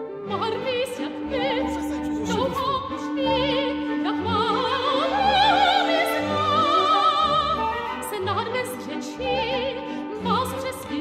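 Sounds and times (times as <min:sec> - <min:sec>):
orchestral music: 0:00.0 - 0:11.0
operatic singing with vibrato: 0:00.2 - 0:11.0.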